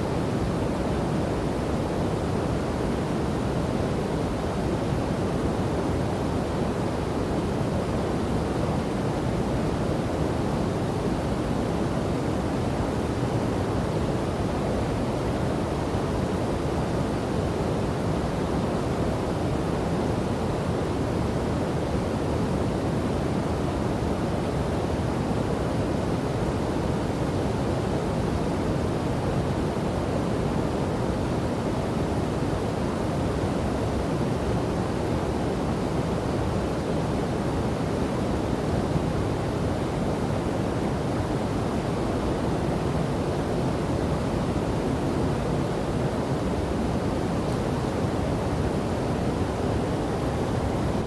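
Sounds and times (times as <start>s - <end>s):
waterfall and river roar: 0.0s - 51.0s.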